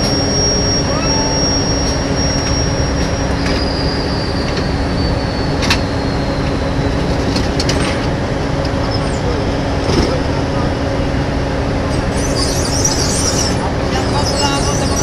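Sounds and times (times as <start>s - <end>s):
ground equipment hum: 0.0s - 15.0s
high whine: 0.0s - 15.0s.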